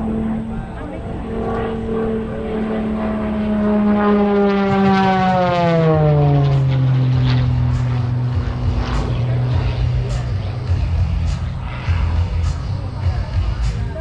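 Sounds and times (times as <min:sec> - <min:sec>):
propeller airplane flying past: 0:00.0 - 0:14.0.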